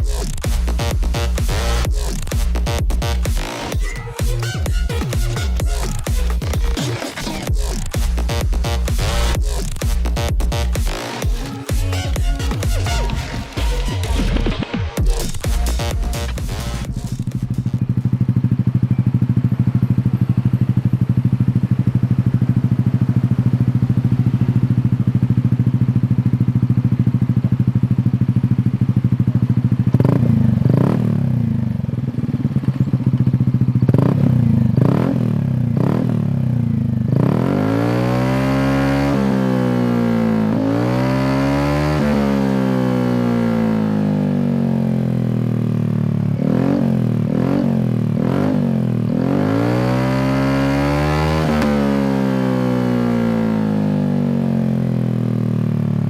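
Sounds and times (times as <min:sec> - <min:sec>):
scooter engine idling and revving: 0:00.0 - 0:56.0.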